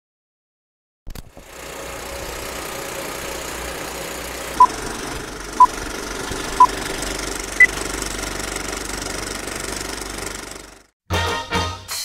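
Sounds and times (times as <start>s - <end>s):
film projector clattering whir: 1.1s - 10.9s.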